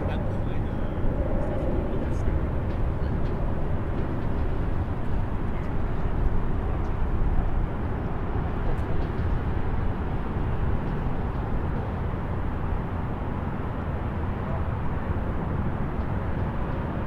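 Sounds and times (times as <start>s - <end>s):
distant highway traffic rumble: 0.0s - 17.0s.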